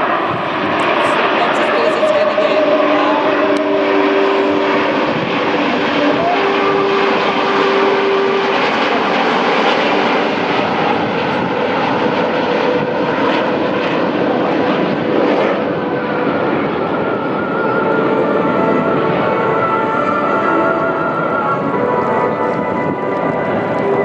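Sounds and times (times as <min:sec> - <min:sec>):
propeller aircraft engines running: 0:00.0 - 0:24.0.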